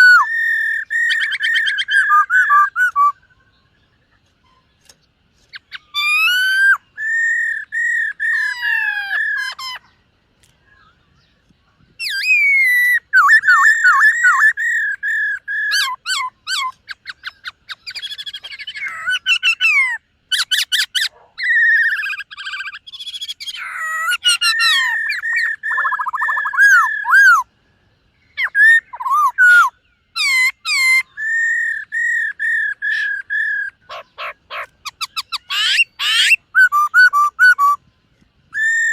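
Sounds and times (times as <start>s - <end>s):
bird singing whistled trills: 0.0s - 4.8s, 5.5s - 10.0s, 10.6s - 38.9s.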